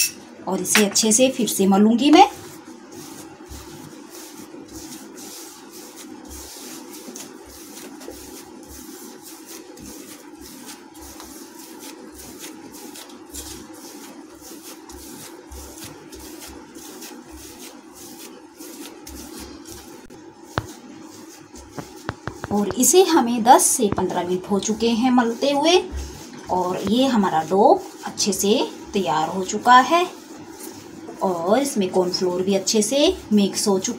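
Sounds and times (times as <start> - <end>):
dough rubbing on a steel plate: 1.0 - 33.9.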